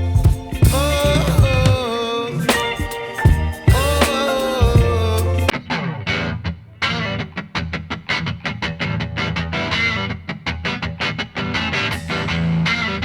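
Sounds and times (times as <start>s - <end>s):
pop music with plucked guitar: 0.0s - 13.0s.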